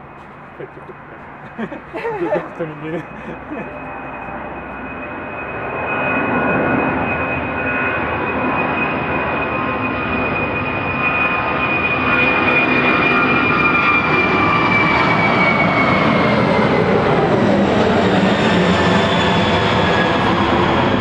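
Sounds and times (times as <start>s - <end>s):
jet aircraft passing overhead: 0.0s - 21.0s.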